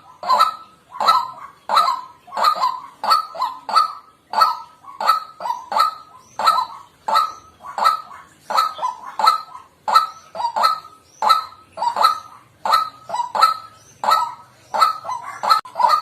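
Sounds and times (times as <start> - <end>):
waterhen honking calls: 0.0 - 16.0.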